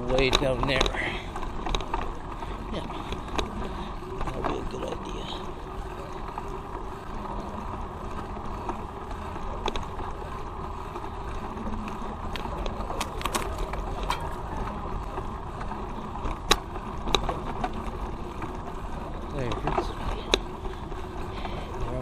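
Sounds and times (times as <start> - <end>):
bicycle tyre and wind noise: 0.0 - 22.0.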